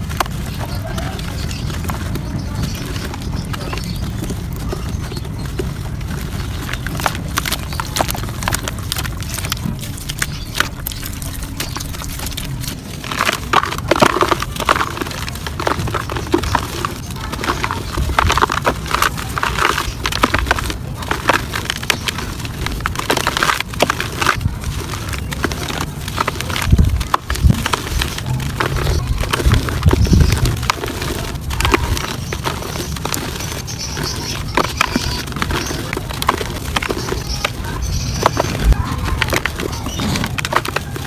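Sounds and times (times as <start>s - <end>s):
soft dirt crumbling and crunching: 0.0s - 41.0s.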